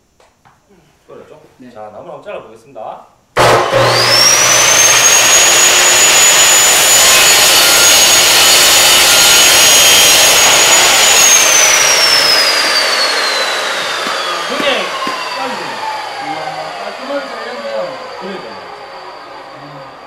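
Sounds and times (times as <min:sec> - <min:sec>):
saw motor whining: 0:03.4 - 0:20.0.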